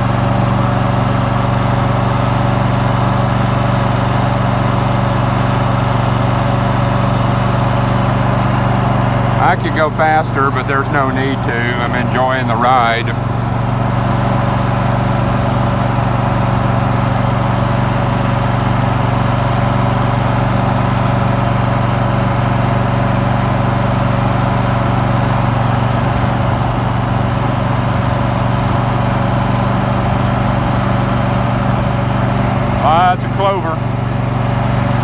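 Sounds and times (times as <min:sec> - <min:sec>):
riding lawn mower engine: 0:00.0 - 0:35.0.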